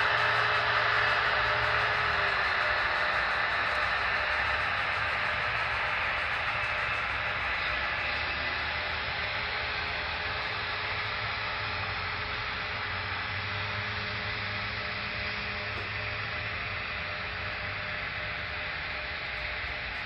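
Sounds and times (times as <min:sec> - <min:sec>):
low hum: 0:00.0 - 0:20.0
model train cars rolling: 0:00.0 - 0:20.0.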